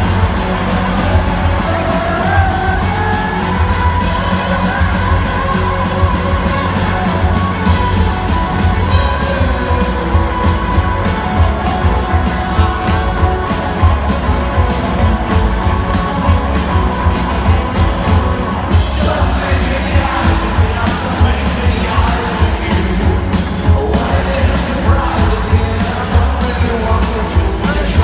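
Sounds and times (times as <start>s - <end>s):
live rock band: 0.0s - 28.0s.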